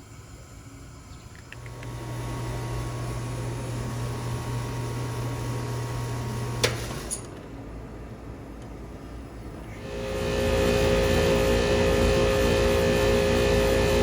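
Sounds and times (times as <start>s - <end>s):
air conditioner hum with fan: 0.0s - 14.0s.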